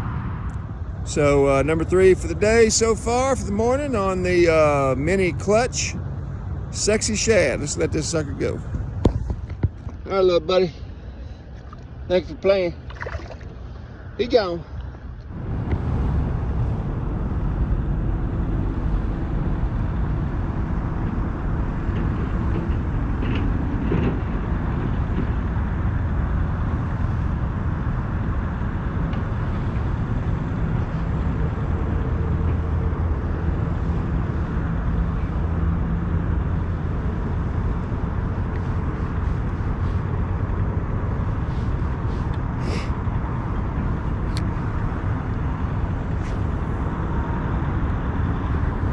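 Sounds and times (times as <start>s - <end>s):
steady low rumbling: 0.0s - 48.9s.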